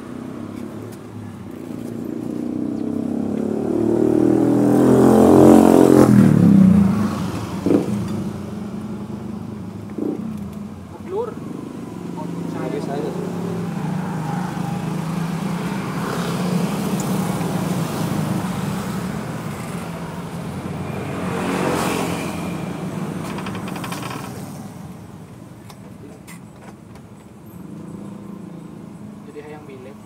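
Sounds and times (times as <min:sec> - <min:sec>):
motorcycles passing by: 0:00.0 - 0:26.3, 0:27.2 - 0:30.0.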